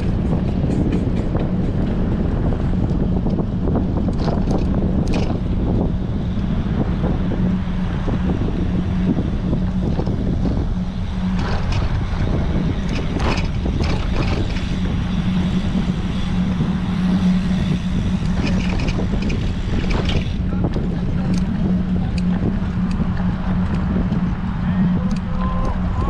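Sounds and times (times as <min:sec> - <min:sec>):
constant hum: 0:00.0 - 0:26.0
wind buffeting microphone: 0:00.0 - 0:26.0.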